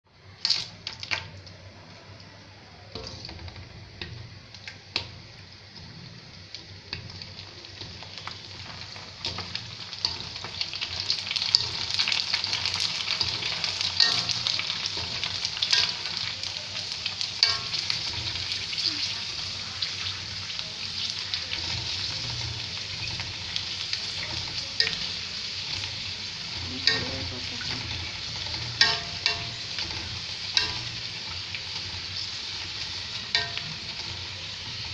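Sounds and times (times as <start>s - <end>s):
dough sizzling in hot oil: 0.1s - 34.9s.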